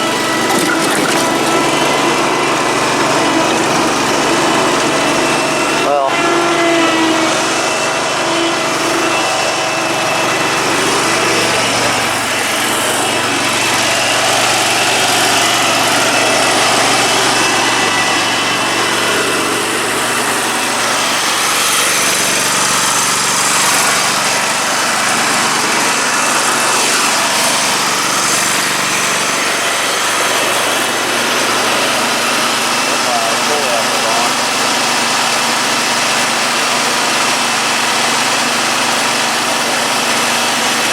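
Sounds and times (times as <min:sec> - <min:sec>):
riding mower engine running: 0:00.0 - 0:40.9.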